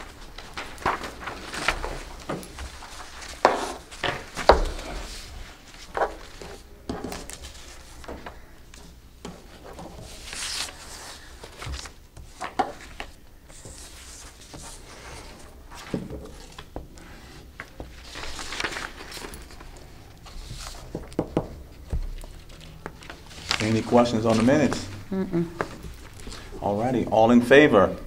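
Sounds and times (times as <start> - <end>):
paper rustling: 0.0 - 25.0.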